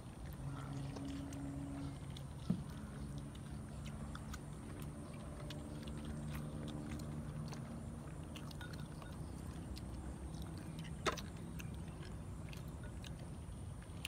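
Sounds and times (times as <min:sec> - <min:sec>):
chewing: 0:00.0 - 0:14.0
steady low hum: 0:00.0 - 0:14.0.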